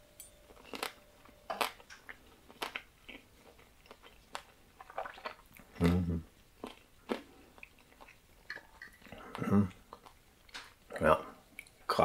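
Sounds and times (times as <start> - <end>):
man chewing food: 0.4 - 11.9.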